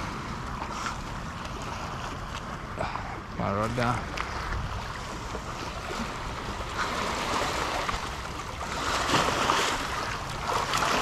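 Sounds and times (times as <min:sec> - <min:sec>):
small waves lapping over rocks: 0:00.0 - 0:11.0.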